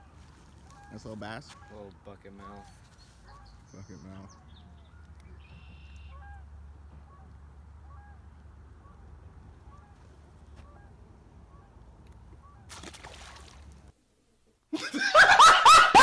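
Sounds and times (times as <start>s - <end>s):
water birds honking: 0.0s - 13.9s.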